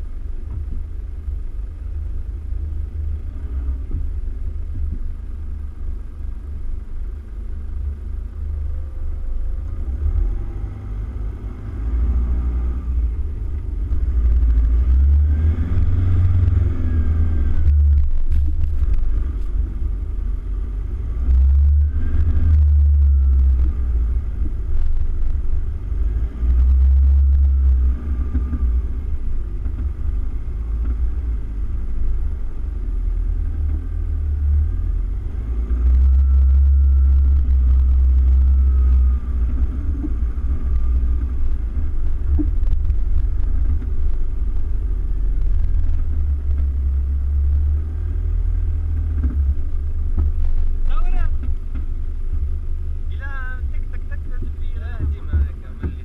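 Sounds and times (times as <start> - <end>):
engine whine: 0.0 - 56.0
pickup truck engine rumble: 0.0 - 56.0.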